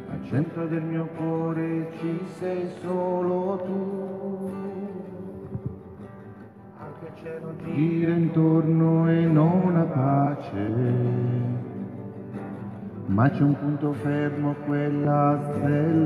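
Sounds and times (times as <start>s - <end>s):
person singing: 0.0s - 6.0s, 6.7s - 16.0s
acoustic guitar: 0.0s - 16.0s.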